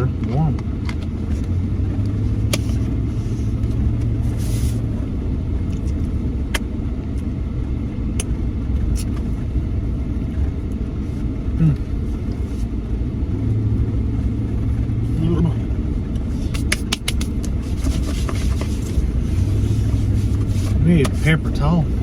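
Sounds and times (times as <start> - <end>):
road and engine rumble in cabin: 0.0 - 22.0.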